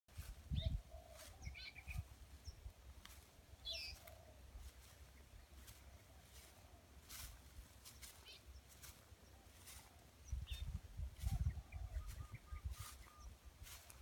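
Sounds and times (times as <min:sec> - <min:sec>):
birds chirping: 0:00.5 - 0:14.0.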